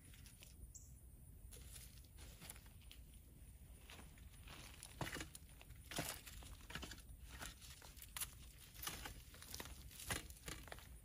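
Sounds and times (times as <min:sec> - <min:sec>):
scrapes and crunches of dirt: 0:00.0 - 0:00.7, 0:01.4 - 0:11.0
hands digging in soil: 0:01.5 - 0:11.0.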